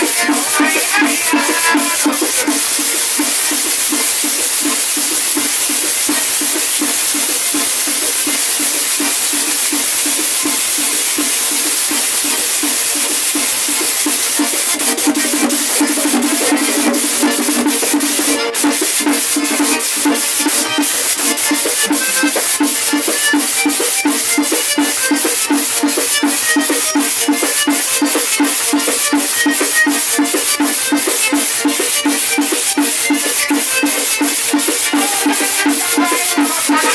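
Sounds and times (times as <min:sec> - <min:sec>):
button accordion playing: 0:00.0 - 0:36.9
metal scraper rhythm: 0:00.0 - 0:36.9.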